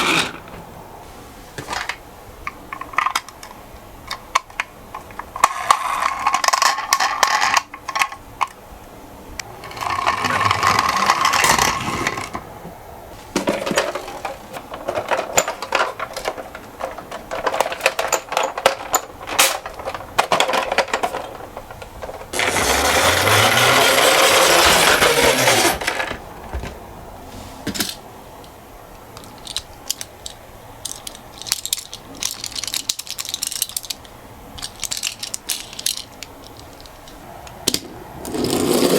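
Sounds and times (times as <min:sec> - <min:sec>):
toy cars rolling and clattering: 0:00.0 - 0:00.5, 0:01.6 - 0:08.6, 0:09.5 - 0:12.4, 0:13.4 - 0:26.2, 0:29.2 - 0:38.9.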